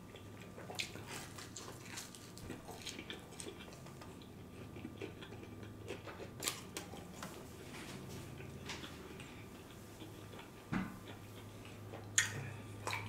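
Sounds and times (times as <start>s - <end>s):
chewing with wet mouth clicks: 0.0s - 7.3s, 8.3s - 13.0s.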